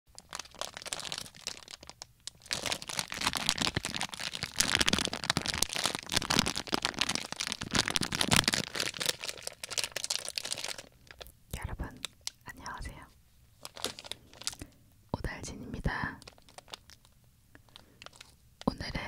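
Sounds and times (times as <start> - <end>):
plastic bag crinkling: 0.1 - 12.6, 13.6 - 14.8, 16.1 - 18.4.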